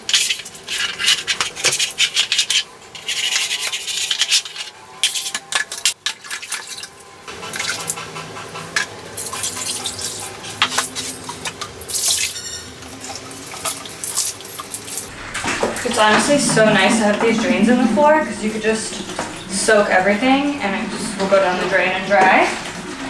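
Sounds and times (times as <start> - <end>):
scrubbing wet tiled floor: 0.0 - 22.8.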